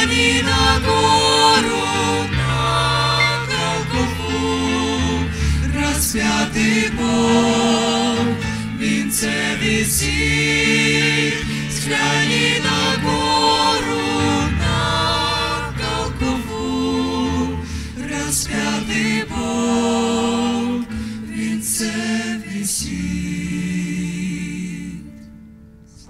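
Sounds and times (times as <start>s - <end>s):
choir singing a hymn: 0.0s - 25.3s.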